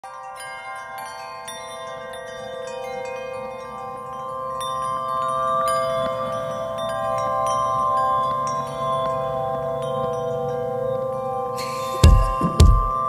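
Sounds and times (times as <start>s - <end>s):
soft chime-like background music: 0.0s - 13.0s
twinkling high bell notes: 0.0s - 13.0s.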